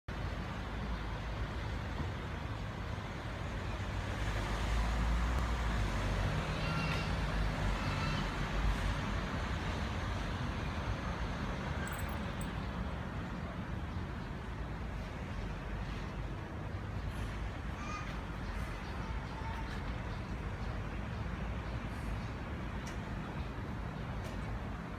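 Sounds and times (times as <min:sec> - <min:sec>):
road traffic rumble: 0:00.1 - 0:24.9.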